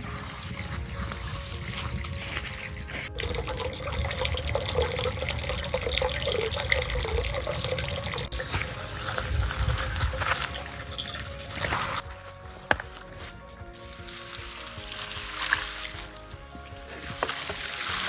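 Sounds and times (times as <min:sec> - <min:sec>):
water running and trickling: 0:00.0 - 0:12.0, 0:13.7 - 0:18.0.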